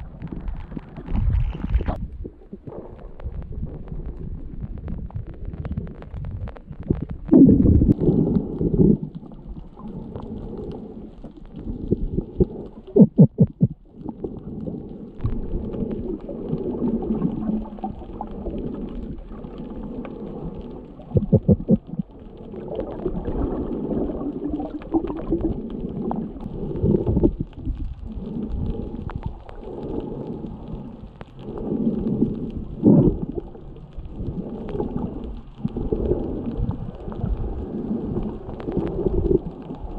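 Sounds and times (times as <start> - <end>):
bubbling pulses: 0.0 - 39.9
water churning underwater: 0.0 - 39.9.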